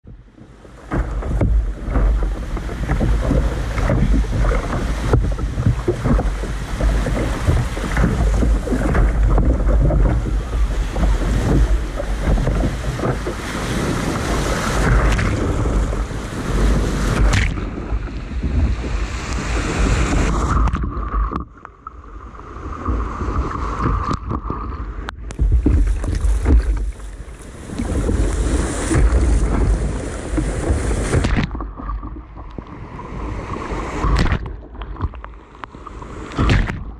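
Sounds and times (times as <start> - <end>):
wind rumble on microphone: 0.0 - 36.9
small surf breaking: 0.5 - 36.9.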